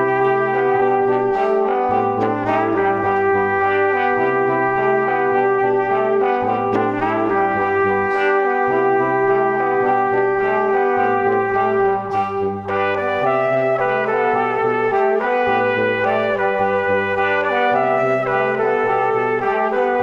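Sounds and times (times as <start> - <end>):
instrumental background music: 0.0 - 20.0.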